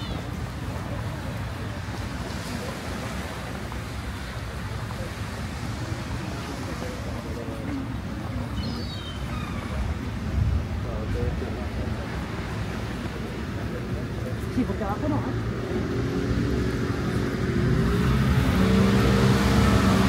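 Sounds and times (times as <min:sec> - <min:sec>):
sea surf washing on beach: 0:00.0 - 0:20.0
wind rumbling on microphone: 0:00.0 - 0:20.0.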